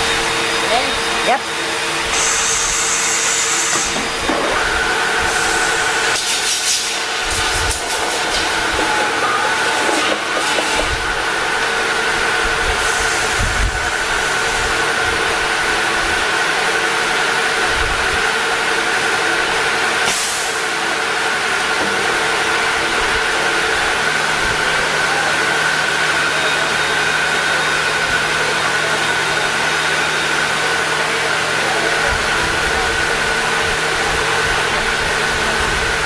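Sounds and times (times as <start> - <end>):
machinery hum: 0.0 - 36.0.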